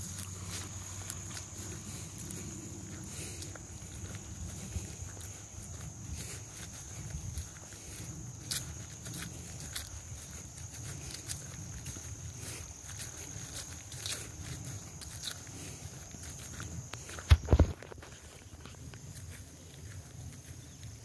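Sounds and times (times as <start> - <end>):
footsteps through marsh vegetation: 0.0 - 21.0.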